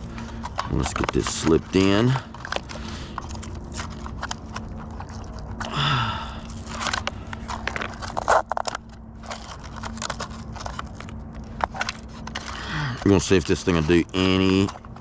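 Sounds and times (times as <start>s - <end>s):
plastic clicks rattles and scrapes: 0.0s - 5.7s, 6.5s - 15.0s.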